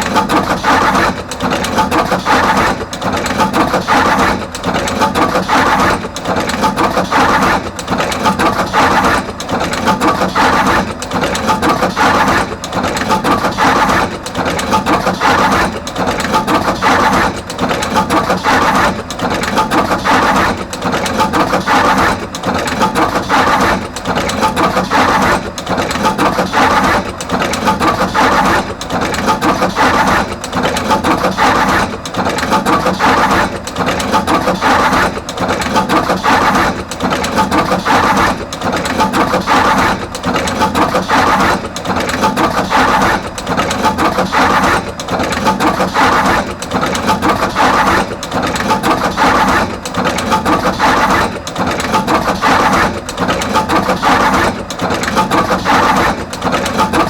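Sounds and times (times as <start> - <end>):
wire crimping machine clatter: 0.0 - 57.0.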